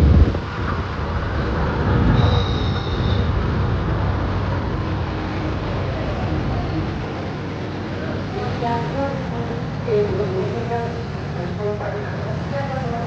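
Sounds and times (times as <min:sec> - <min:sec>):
crowd rumble: 0:00.0 - 0:13.0
motorbike traffic: 0:00.0 - 0:13.0.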